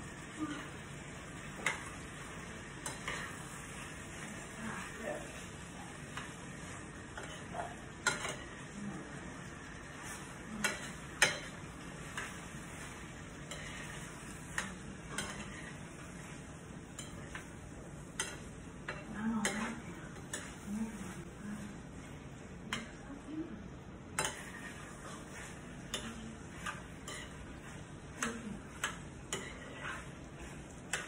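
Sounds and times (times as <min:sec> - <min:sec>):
low sizzle: 0:00.0 - 0:31.0
utensil stirring filling in skillet: 0:00.0 - 0:31.0.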